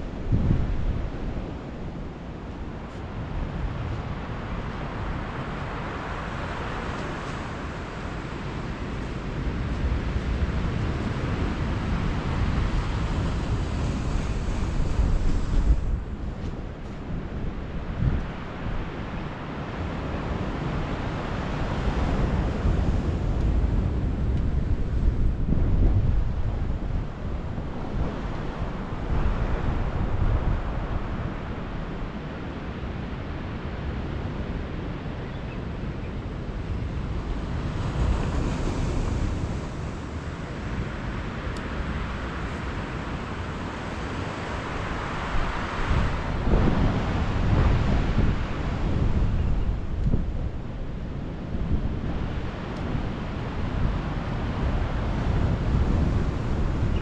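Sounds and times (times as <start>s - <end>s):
waves breaking on shore: 0.0s - 35.2s, 36.2s - 57.0s
strong wind buffeting microphone: 0.0s - 57.0s.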